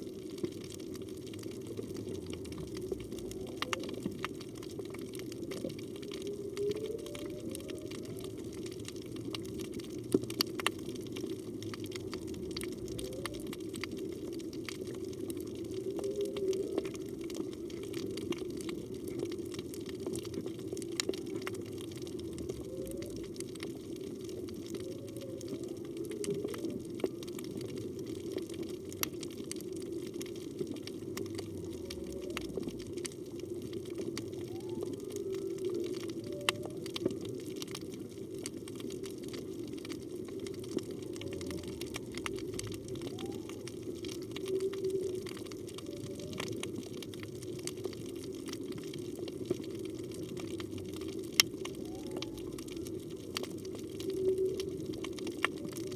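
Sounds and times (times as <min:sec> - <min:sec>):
underwater rush of water: 0:00.0 - 0:55.9.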